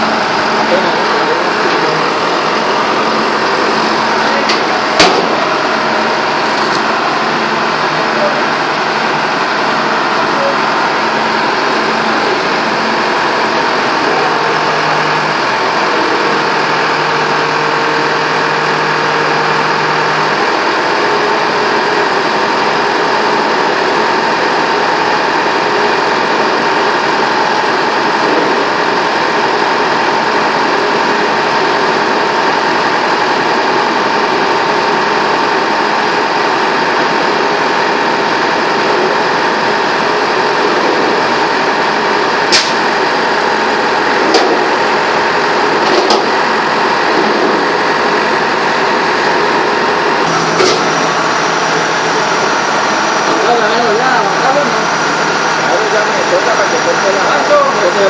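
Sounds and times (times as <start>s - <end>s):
vehicle engines droning: 0.0s - 58.0s.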